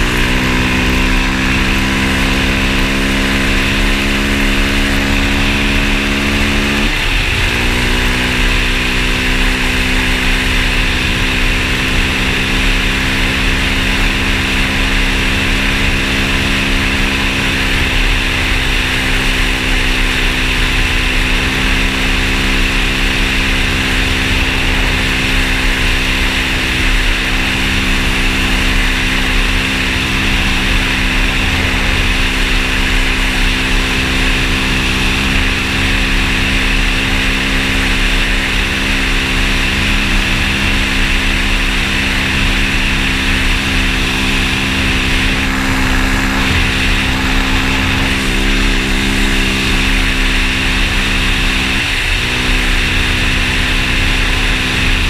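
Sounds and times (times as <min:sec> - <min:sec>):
engine running with low rumble: 0:00.0 - 0:55.0.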